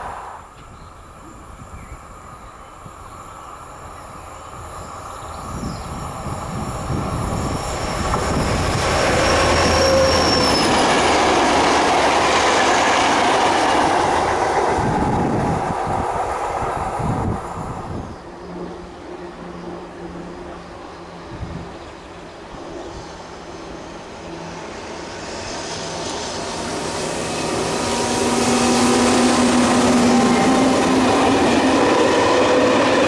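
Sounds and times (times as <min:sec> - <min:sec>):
locomotives rumbling past: 0:06.0 - 0:33.0.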